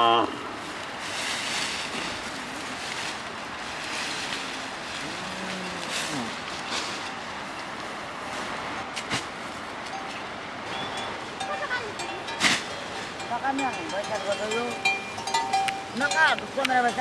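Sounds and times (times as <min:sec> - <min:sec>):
leafy branches and straw rustling: 0:00.4 - 0:17.0.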